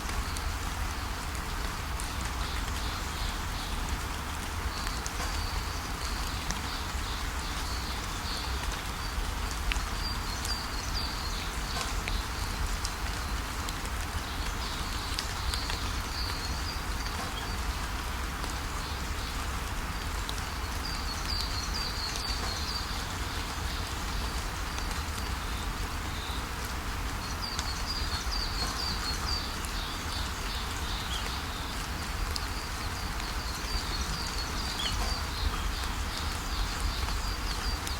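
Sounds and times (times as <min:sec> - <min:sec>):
steady rain: 0:00.0 - 0:37.9.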